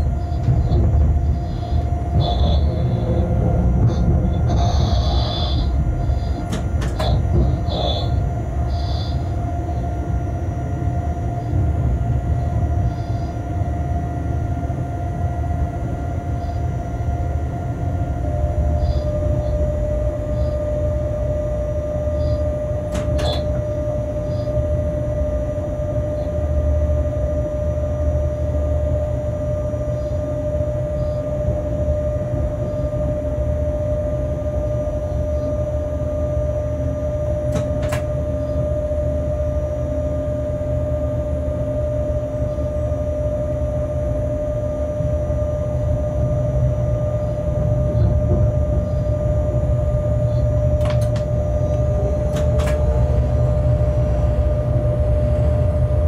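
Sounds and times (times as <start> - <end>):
locomotive cab rumble and hum: 0.0 - 56.0.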